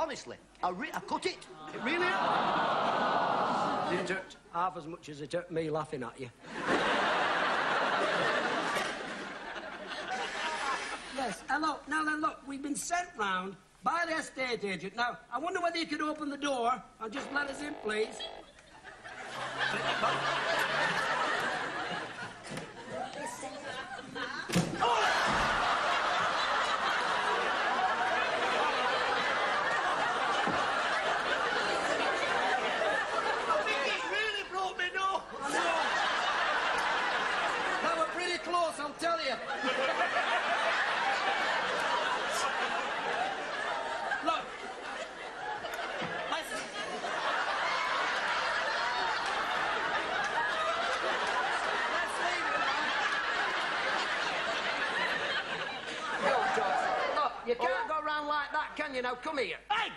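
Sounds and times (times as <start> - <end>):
studio audience laughing: 1.6 - 4.3, 6.4 - 11.4, 17.2 - 57.4.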